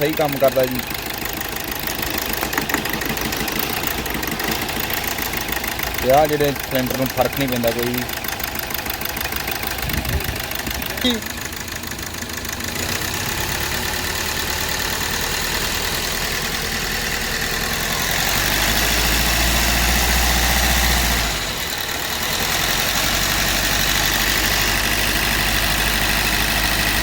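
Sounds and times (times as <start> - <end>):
engine idling roughly with knocking: 0.0 - 27.0.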